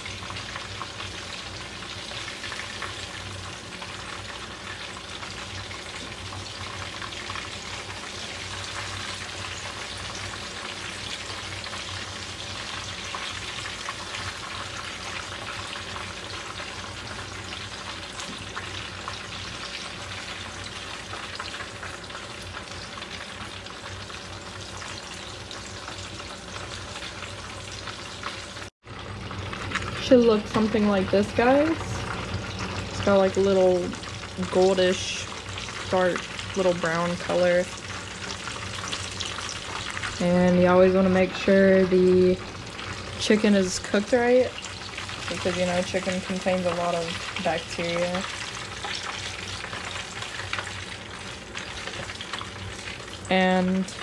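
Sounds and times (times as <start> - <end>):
chicken sizzling in oil: 0.0 - 54.0.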